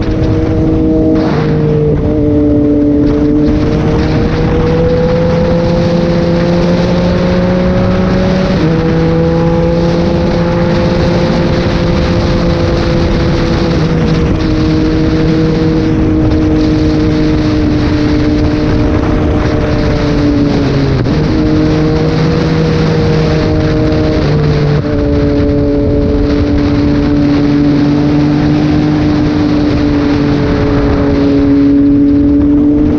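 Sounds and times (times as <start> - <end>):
motorcycle engine cruising: 0.0 - 32.9
wind rush: 0.0 - 32.9.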